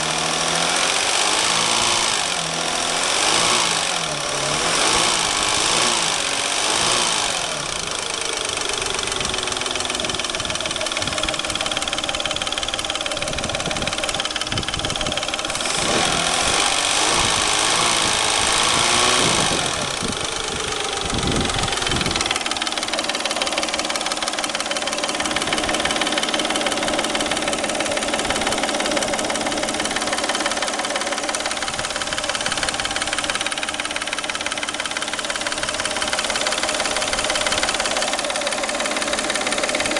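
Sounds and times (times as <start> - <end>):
car engine revving and idling: 0.0 - 39.9
engine knock: 0.0 - 39.9.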